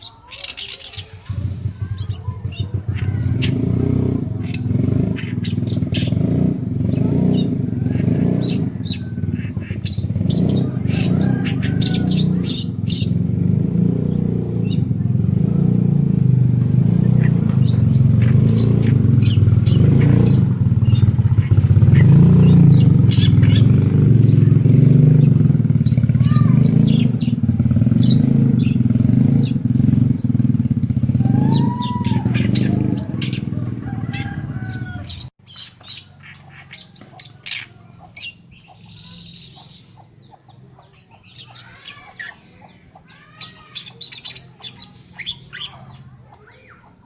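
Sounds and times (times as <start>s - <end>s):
bird chirping song: 0.0s - 47.0s
engine rumble: 0.0s - 47.0s.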